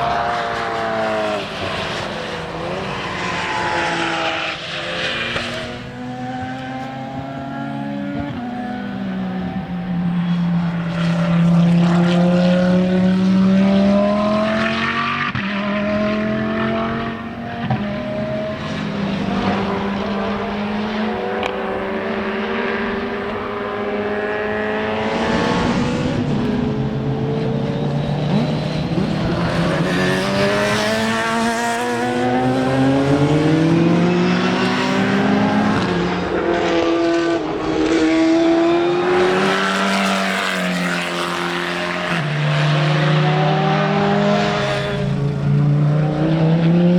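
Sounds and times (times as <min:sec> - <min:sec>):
racing car engines: 0:00.0 - 0:46.9.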